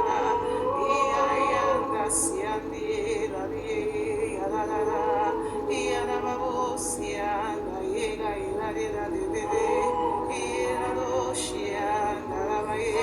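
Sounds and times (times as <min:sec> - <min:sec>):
person singing long notes: 0:00.0 - 0:13.0
worship music: 0:00.0 - 0:13.0.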